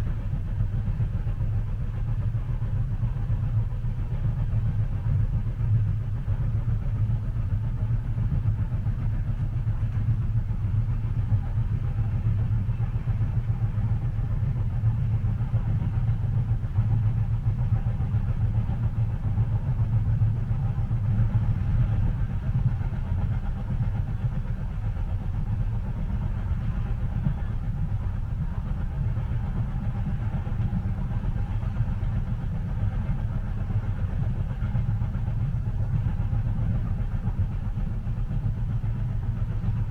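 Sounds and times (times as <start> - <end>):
train rumbling inside carriage: 0.0 - 39.9.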